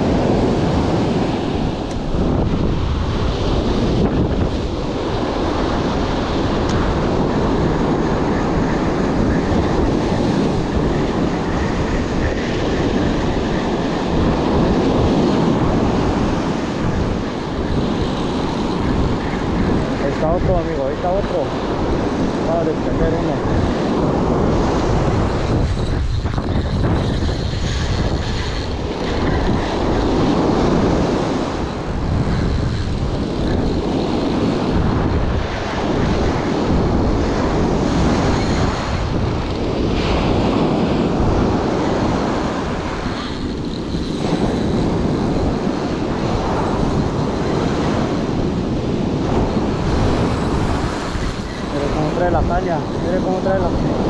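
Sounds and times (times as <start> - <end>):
ocean surf washing: 0.0 - 54.0
wind buffeting microphone: 0.0 - 54.0.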